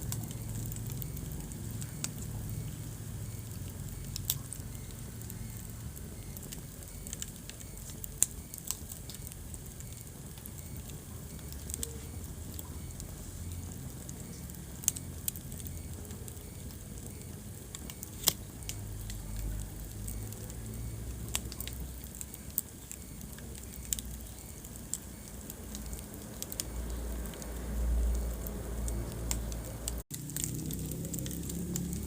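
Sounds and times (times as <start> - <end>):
fireplace fire rumbling: 0.0 - 32.0
wood fire crackling and popping: 0.0 - 32.0.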